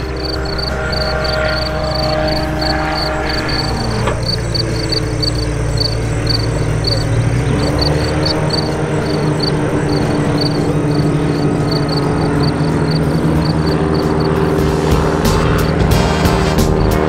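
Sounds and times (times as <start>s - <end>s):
propeller planes passing: 0.0s - 17.0s.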